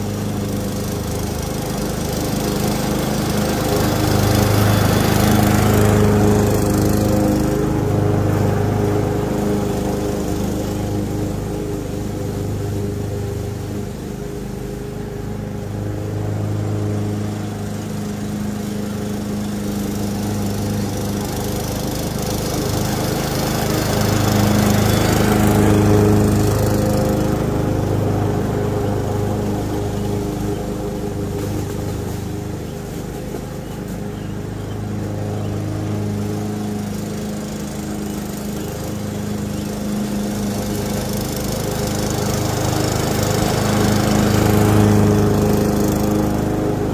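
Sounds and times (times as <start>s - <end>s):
lawn mower cutting grass: 0.0s - 46.9s.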